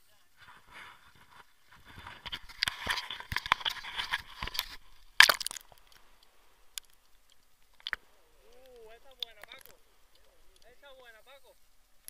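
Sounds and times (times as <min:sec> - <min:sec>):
faint underwater clicks: 0:00.4 - 0:12.0.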